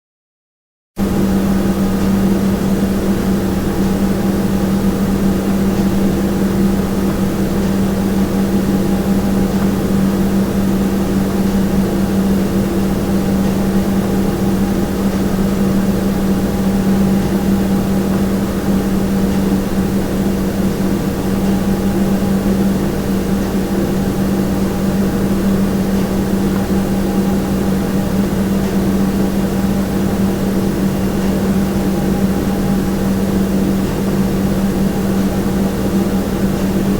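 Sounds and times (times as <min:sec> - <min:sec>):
steady low hum: 0:01.0 - 0:36.9.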